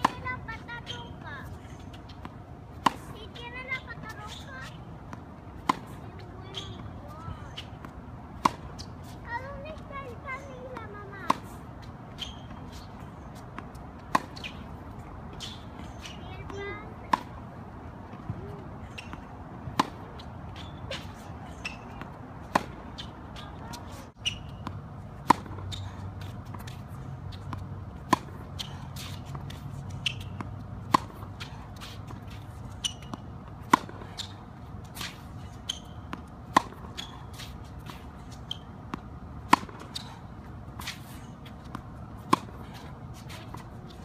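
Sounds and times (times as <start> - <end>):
tennis racket hitting ball: 0.0 - 11.6, 13.6 - 17.4, 18.3 - 44.0.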